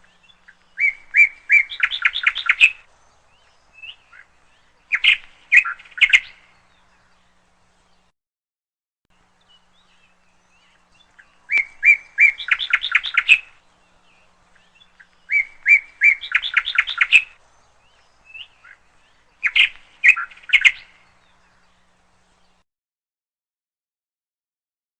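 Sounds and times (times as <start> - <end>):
small songbird singing: 0.0 - 8.1, 9.2 - 22.6.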